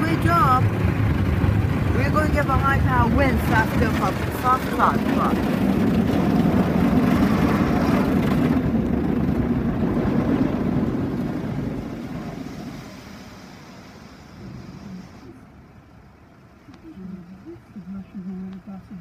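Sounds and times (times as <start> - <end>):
water spray rushing over car: 0.0 - 15.4
low machine hum: 0.0 - 19.0.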